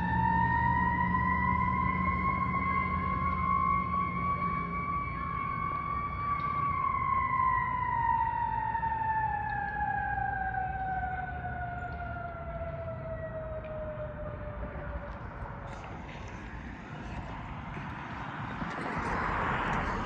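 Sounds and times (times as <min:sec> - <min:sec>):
fire engine siren: 0:00.0 - 0:20.0.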